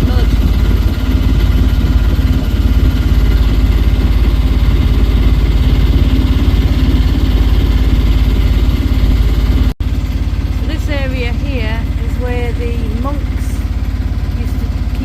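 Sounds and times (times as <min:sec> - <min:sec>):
boat engine chugging: 0:00.0 - 0:15.0.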